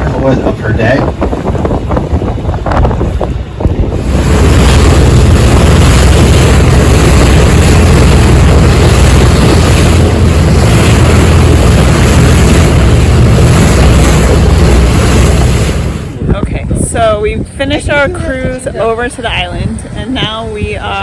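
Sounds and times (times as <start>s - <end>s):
boat engine rumble: 0.0s - 21.0s
wind buffeting microphone: 0.0s - 21.0s.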